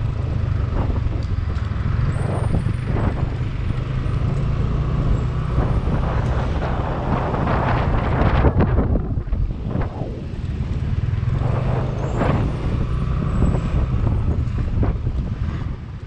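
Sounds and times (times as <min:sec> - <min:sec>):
motorcycle engine running: 0:00.0 - 0:16.0
riding noise: 0:00.0 - 0:16.0.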